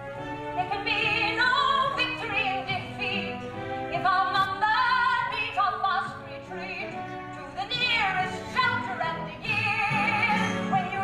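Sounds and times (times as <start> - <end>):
orchestral accompaniment: 0.0 - 11.0.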